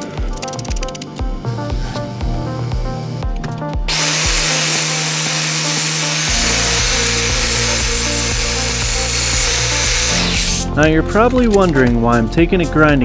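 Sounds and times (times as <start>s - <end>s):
grinding wheel on steel: 0.0s - 11.8s
background music with beat: 0.0s - 13.0s.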